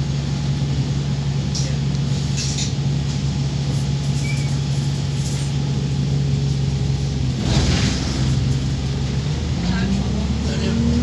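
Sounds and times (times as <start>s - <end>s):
bus diesel engine idling: 0.0s - 7.4s, 8.0s - 11.0s.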